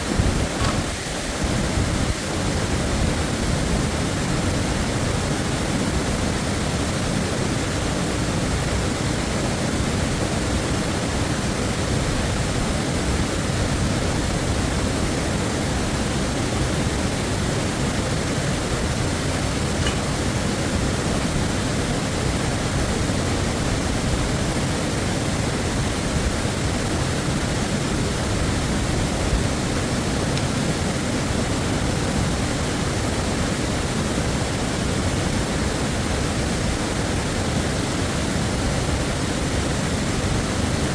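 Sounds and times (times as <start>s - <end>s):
waterfall crashing: 0.0s - 40.9s.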